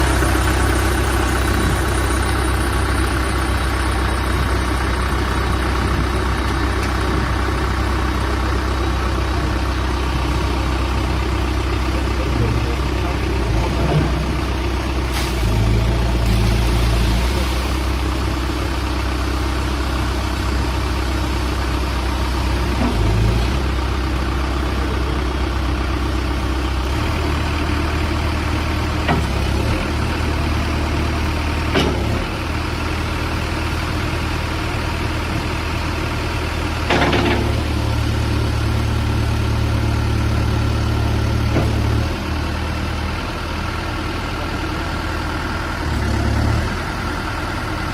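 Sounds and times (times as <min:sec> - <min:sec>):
backhoe diesel engine running: 0:00.0 - 0:47.9.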